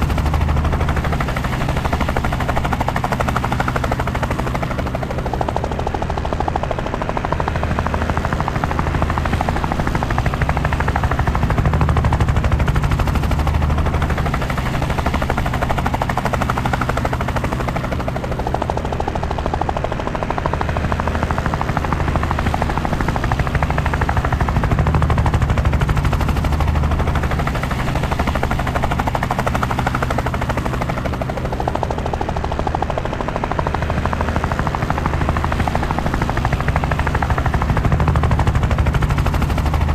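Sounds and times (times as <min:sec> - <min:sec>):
helicopter engine hum: 0:00.0 - 0:39.9
helicopter rotor chopping: 0:00.0 - 0:39.9.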